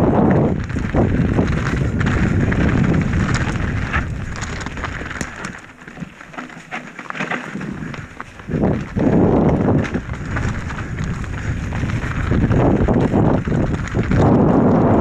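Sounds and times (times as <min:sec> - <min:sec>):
tyres rolling over rough ground: 0:00.0 - 0:15.0
wind rumbling on microphone: 0:00.0 - 0:15.0
bike rattling clicks: 0:00.4 - 0:15.0.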